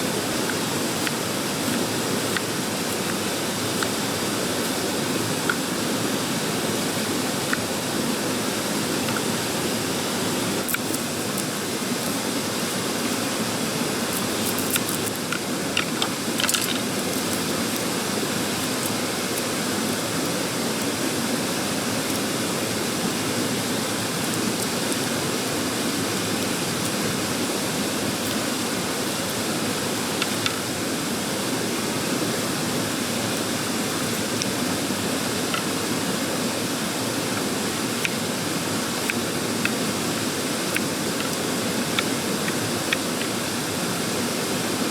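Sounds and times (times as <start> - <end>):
stream rushing: 0.0 - 44.9.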